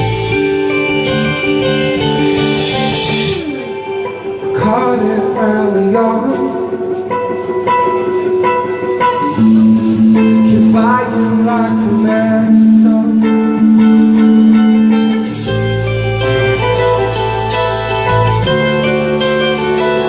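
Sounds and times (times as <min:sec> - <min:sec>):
guitar with bending notes: 0:00.0 - 0:20.0
live band playing: 0:00.0 - 0:20.0.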